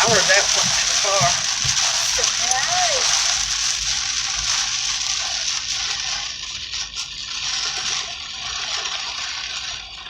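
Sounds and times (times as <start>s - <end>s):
heavy rain on car roof: 0.0s - 10.0s.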